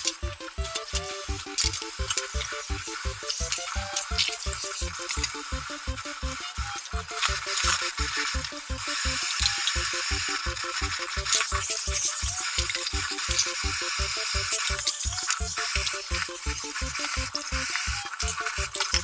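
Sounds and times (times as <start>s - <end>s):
background music with a beat: 0.0s - 19.0s
tap water running into a sink: 0.0s - 19.0s.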